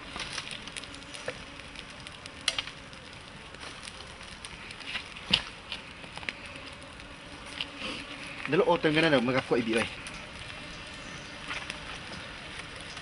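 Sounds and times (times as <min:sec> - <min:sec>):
meat hissing: 0:00.0 - 0:13.0
wood fire crackling and popping: 0:00.0 - 0:13.0.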